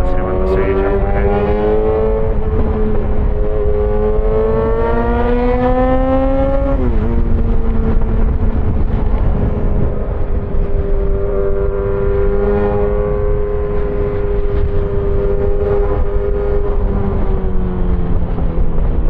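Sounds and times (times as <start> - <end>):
motorcycle engine revving: 0.0 - 19.0
wind noise on microphone: 0.0 - 19.0.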